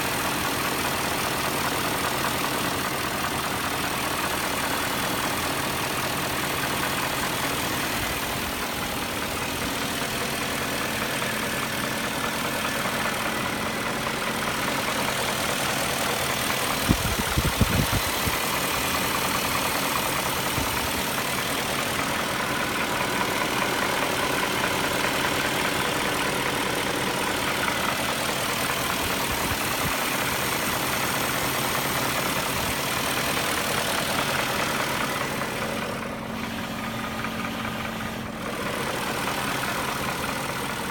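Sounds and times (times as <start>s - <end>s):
car engine idling with knock: 0.0s - 40.9s.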